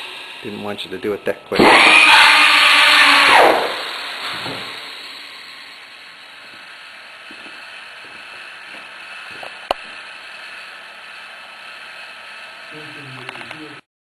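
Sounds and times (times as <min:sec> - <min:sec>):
power drill running: 0:00.0 - 0:13.6.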